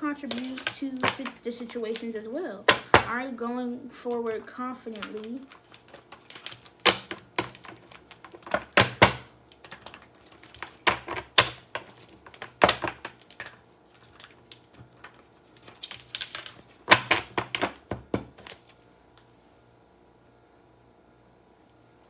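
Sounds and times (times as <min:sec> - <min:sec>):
cards being shuffled: 0:00.1 - 0:03.2, 0:04.0 - 0:18.9.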